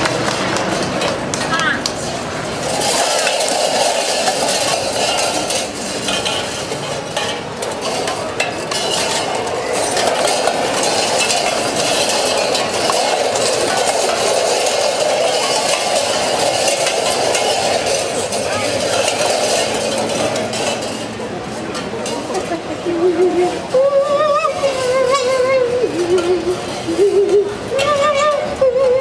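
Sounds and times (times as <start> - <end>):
tin cans clinking and rattling: 0.0 - 29.0.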